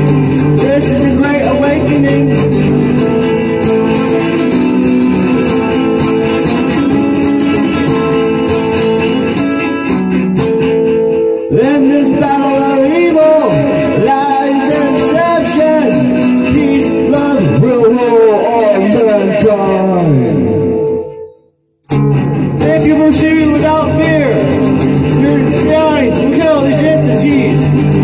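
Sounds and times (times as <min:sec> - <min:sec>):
guitar chords: 0:00.0 - 0:28.0.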